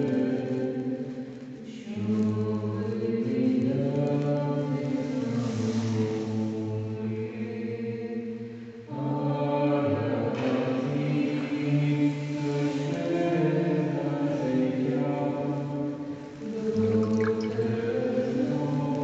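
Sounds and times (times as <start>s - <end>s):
slow hymn singing: 0.0s - 19.0s.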